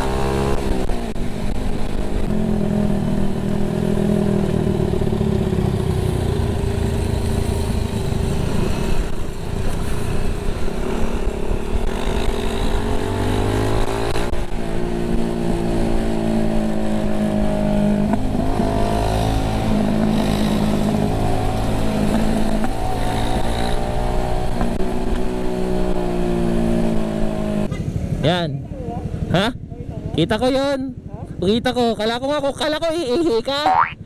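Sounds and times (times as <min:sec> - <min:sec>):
motorcycle engine revving: 0:00.0 - 0:31.1.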